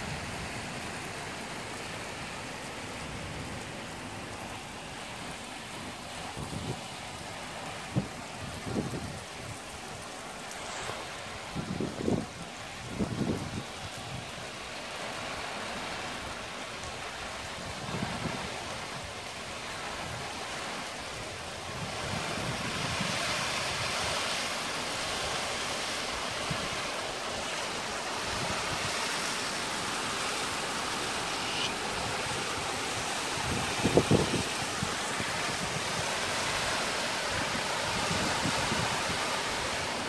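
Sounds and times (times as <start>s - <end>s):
heavy rain downpour: 0.0s - 40.0s.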